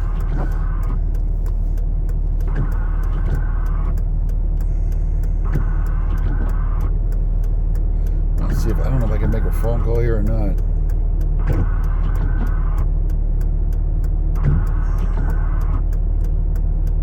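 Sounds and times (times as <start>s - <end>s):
faint clicks: 0.0s - 17.0s
pickup truck engine humming: 0.0s - 17.0s.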